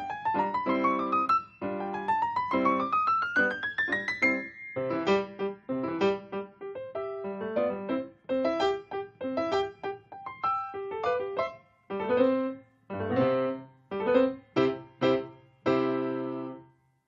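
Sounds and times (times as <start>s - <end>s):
solo piano: 0.0s - 16.9s.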